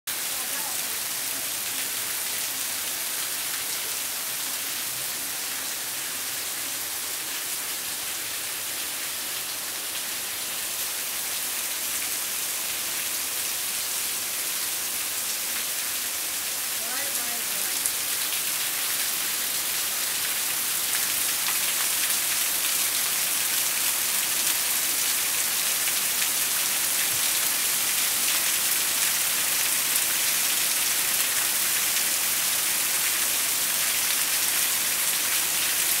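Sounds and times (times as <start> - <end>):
heavy rain pouring: 0.1 - 36.0.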